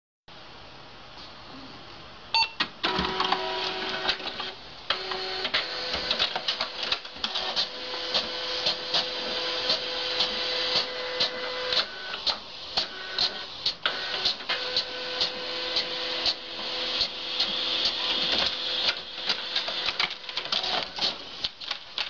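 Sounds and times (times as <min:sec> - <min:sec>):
printer motor whine: 0:02.8 - 0:21.4.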